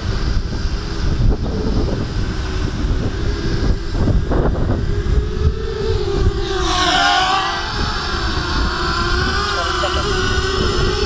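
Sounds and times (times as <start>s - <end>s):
higher drone whine: 0.0s - 11.0s
quadcopter motors whining: 0.0s - 11.0s
wind rumble on microphone: 0.0s - 11.0s.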